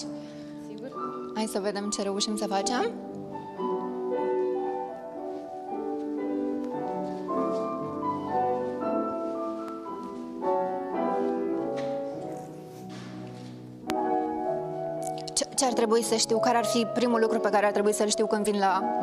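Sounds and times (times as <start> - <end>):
grand piano playing classical music: 0.0 - 19.0.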